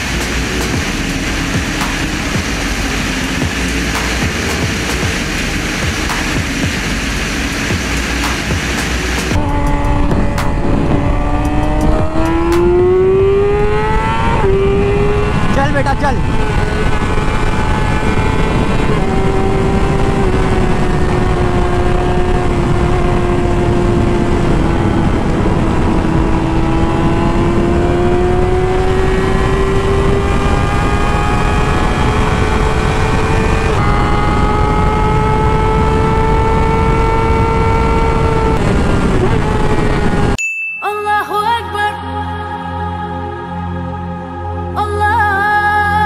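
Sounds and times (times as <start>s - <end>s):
motorcycle engine at high revs: 0.0s - 40.4s
wind rush on microphone: 0.0s - 40.4s.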